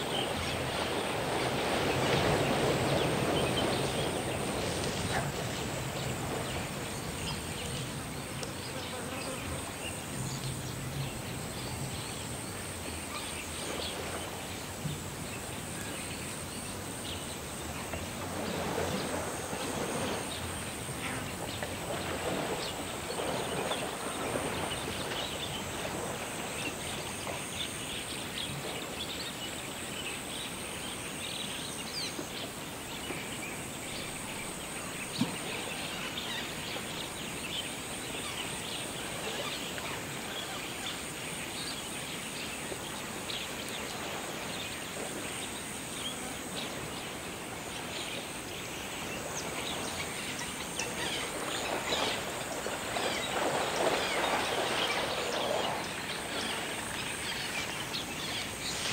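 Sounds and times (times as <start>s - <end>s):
background hiss: 0.0s - 58.9s.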